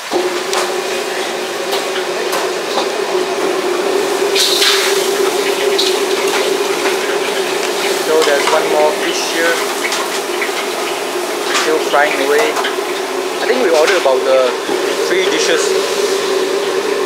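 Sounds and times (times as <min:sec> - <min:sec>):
kitchen utensils clinking: 0:00.0 - 0:15.9
steady hum: 0:00.0 - 0:17.0
tap water running: 0:00.0 - 0:17.0.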